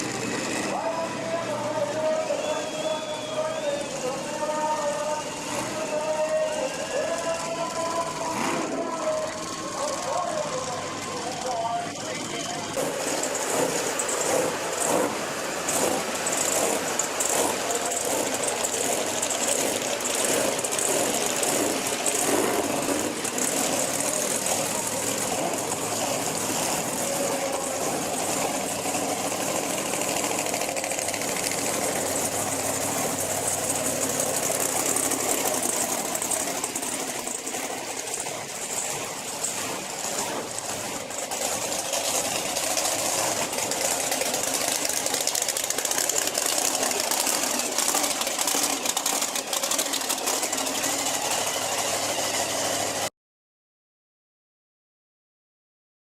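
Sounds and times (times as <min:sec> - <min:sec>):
arena noise: 0:00.0 - 0:53.1
monster truck engine running: 0:00.0 - 0:53.1.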